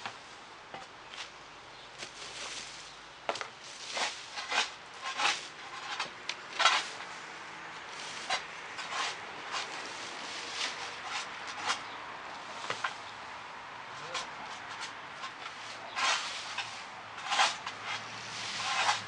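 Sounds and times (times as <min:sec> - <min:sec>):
rake scraping dry leaves: 0:02.0 - 0:13.1, 0:13.9 - 0:19.0.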